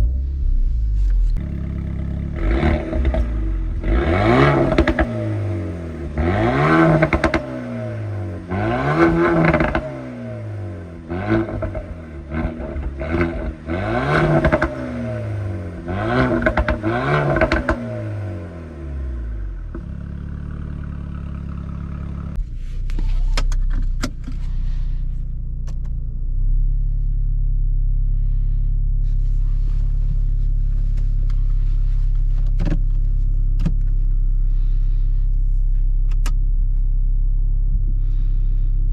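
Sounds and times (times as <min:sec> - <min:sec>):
exhaust crackles and pops: 0:00.0 - 0:10.3, 0:11.0 - 0:18.5, 0:19.6 - 0:38.9
car engine revving: 0:00.0 - 0:38.9.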